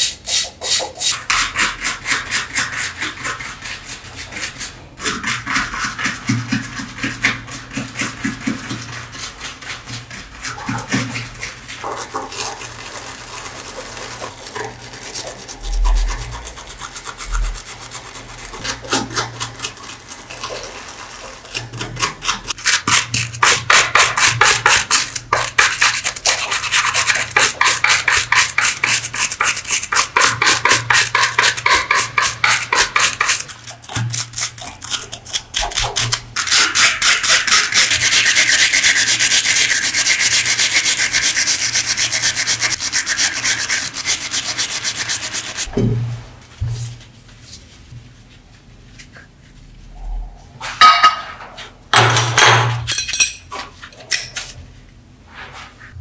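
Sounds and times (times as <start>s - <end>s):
wire brush scrubbing metal: 0.0s - 45.7s.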